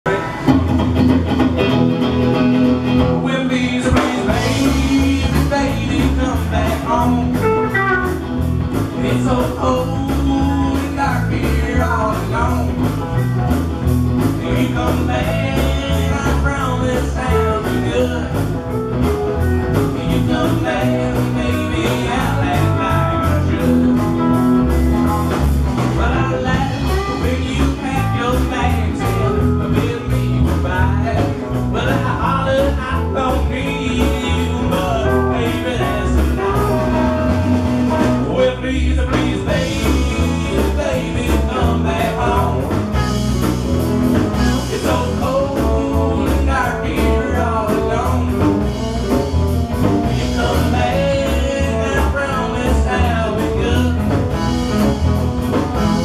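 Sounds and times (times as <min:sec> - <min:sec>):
bass guitar: 0:00.0 - 0:56.0
electric guitars: 0:00.0 - 0:56.0
drum kit beat: 0:00.1 - 0:03.2, 0:03.8 - 0:38.4, 0:39.1 - 0:56.0.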